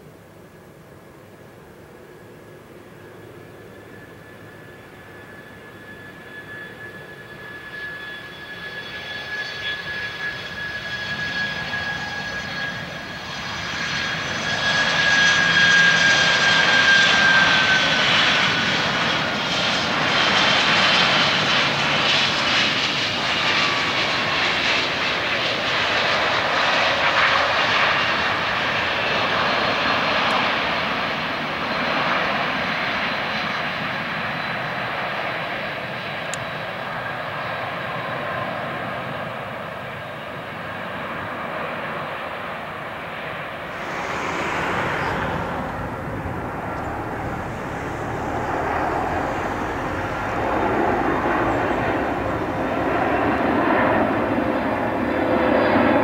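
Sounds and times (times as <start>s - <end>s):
jet engines roaring and whining: 1.4s - 56.0s.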